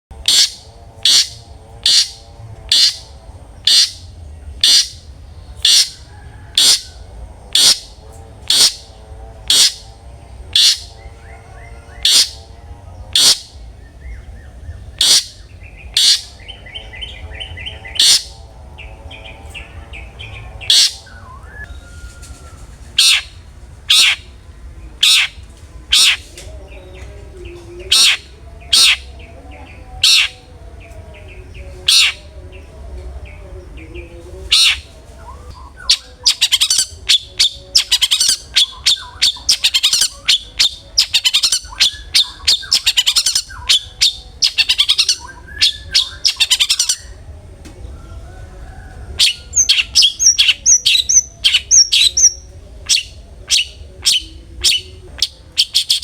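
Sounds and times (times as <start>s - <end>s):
bird sharp calling notes: 0.2s - 24.4s, 25.0s - 26.3s, 27.8s - 30.5s, 31.8s - 32.4s, 34.5s - 47.2s, 48.1s - 56.0s.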